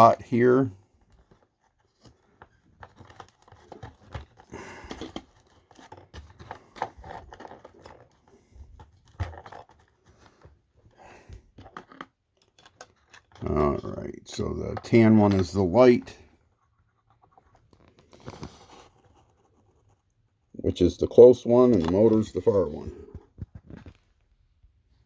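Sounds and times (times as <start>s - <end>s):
cords rustling and scraping: 0.0s - 24.4s.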